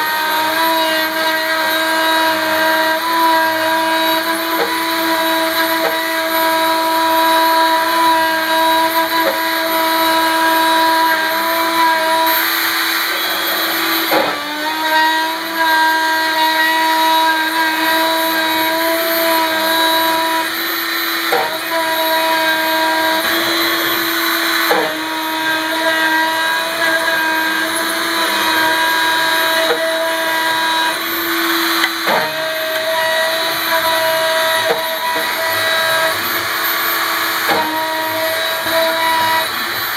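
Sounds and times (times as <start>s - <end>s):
router spindle milling whine: 0.0s - 39.9s.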